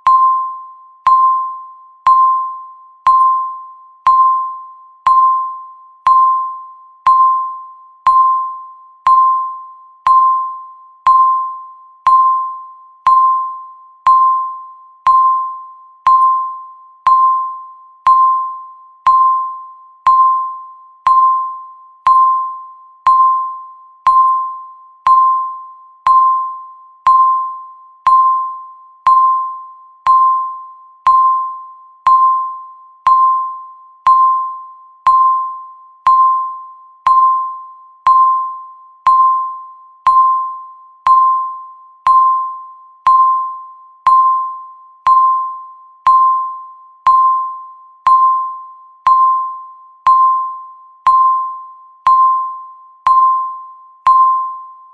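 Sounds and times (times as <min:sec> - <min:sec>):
chime-like timer ticks: 0:00.0 - 0:54.9.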